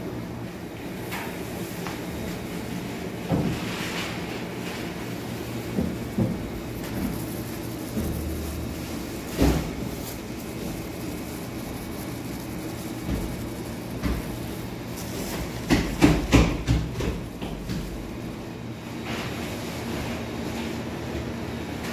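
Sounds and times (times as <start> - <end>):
bakery machinery hum: 0.0 - 21.9.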